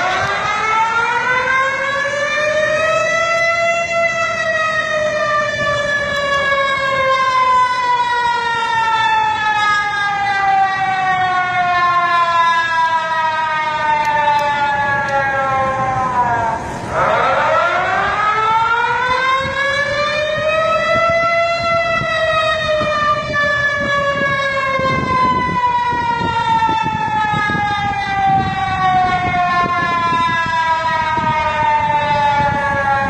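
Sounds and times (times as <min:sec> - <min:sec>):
emergency siren wailing: 0:00.0 - 0:33.0.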